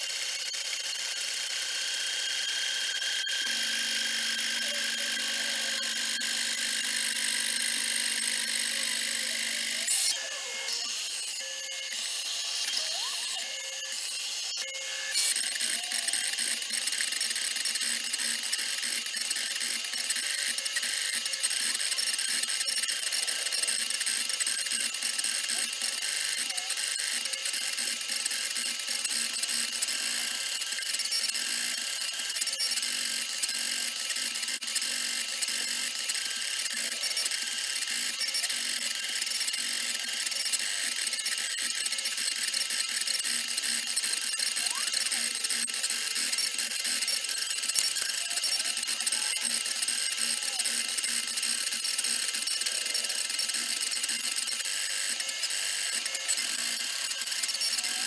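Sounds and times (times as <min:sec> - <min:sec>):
bit chattering through plastic: 0:00.0 - 0:58.0
router spindle whine: 0:00.0 - 0:58.0.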